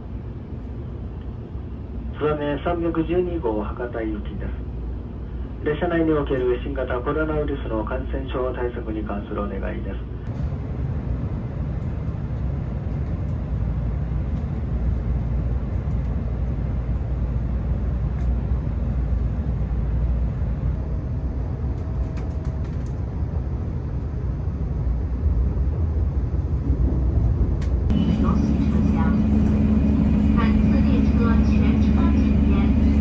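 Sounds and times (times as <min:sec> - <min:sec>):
train rumble inside carriage: 0:00.0 - 0:33.0.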